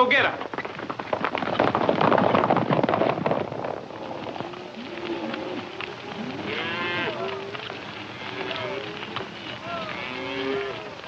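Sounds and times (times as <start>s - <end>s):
horse hooves galloping: 0.0s - 11.0s
cattle lowing: 0.6s - 11.0s.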